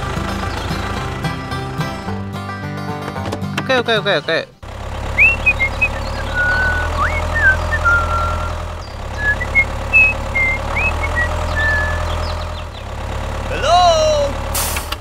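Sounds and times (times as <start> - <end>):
birds chirping: 0.0 - 2.0, 3.6 - 14.4
tractor engine running: 0.0 - 15.0.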